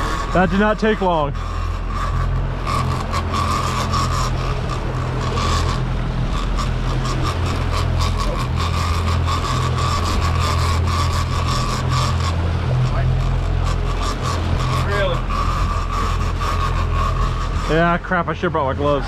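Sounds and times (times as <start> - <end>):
fishing reel cranking: 0.0 - 19.0
outboard motors humming: 0.0 - 19.0.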